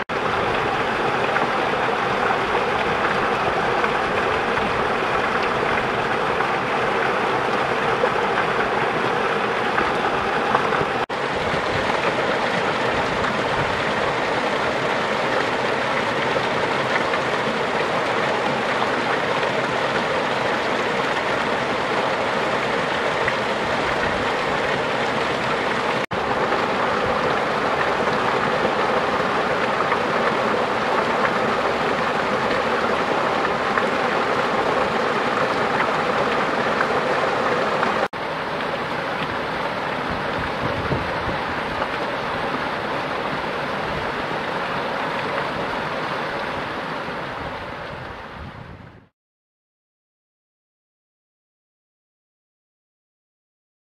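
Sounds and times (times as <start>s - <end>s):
stream rushing over rocks: 0.0s - 49.1s.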